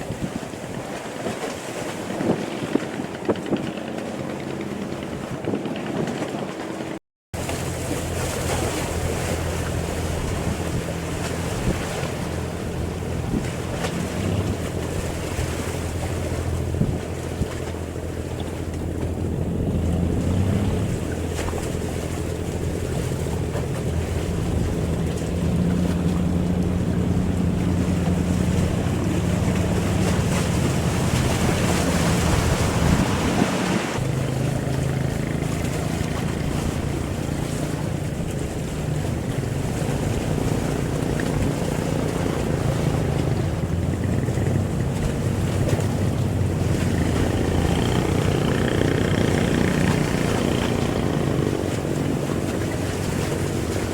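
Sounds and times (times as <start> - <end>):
boat engine droning: 0.0 - 53.9
water rushing along hull: 0.0 - 53.9
wind buffeting microphone: 0.0 - 53.9.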